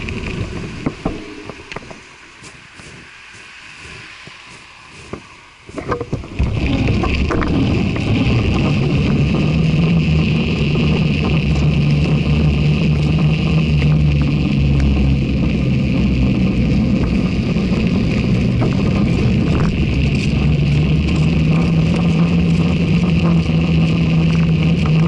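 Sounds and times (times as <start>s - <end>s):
bicycle tyre rolling on wet pavement: 0.0s - 25.0s
wind on microphone: 0.0s - 25.0s.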